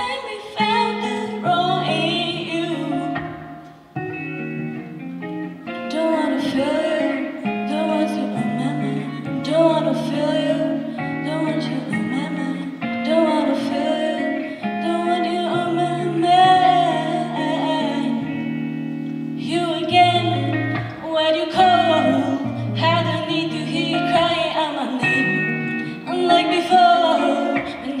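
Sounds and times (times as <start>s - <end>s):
woman singing into microphone: 0.0s - 3.8s, 5.7s - 18.6s, 19.3s - 28.0s
guitar accompaniment: 0.0s - 28.0s.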